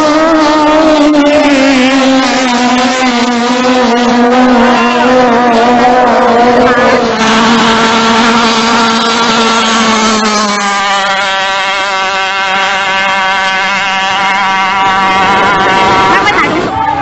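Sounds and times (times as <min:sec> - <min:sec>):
speedboat engine at full speed: 0:00.0 - 0:17.0.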